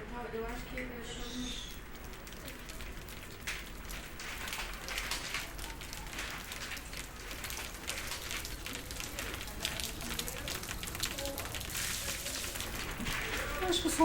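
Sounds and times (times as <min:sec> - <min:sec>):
rain falling on a surface: 0:00.2 - 0:14.0.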